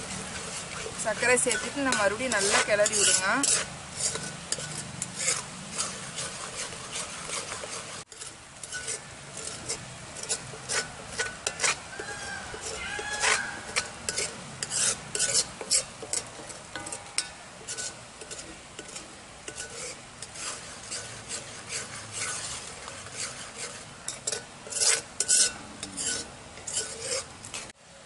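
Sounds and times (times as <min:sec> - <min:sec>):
metal spatula scraping pan: 0:00.0 - 0:27.7.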